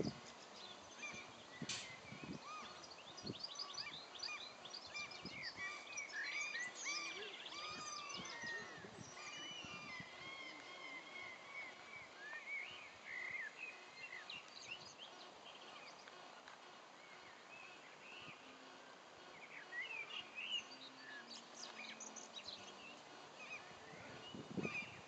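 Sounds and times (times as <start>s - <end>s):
birds chirping and trilling: 0.0s - 25.0s
steady outdoor hiss: 0.0s - 25.0s.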